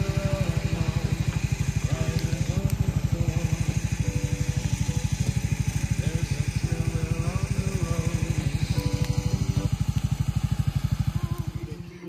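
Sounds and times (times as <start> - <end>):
faint voices or music: 0.0 - 12.0
small engine idling: 0.0 - 12.0.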